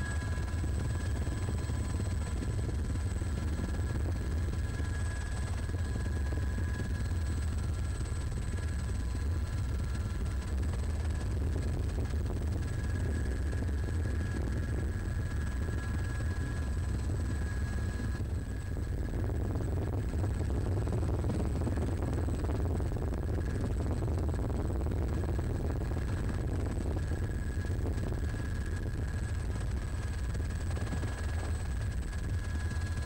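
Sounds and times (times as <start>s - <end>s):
helicopter rotor drone: 0.0s - 33.0s.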